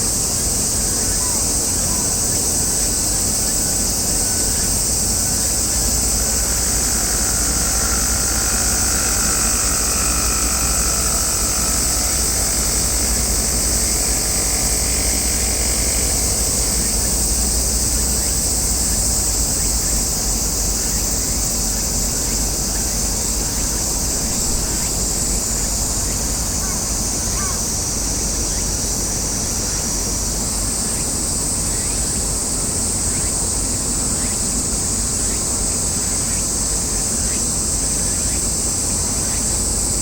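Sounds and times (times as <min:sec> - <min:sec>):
faint distant whine: 0:00.0 - 0:34.7
steady high hiss: 0:00.0 - 0:40.0.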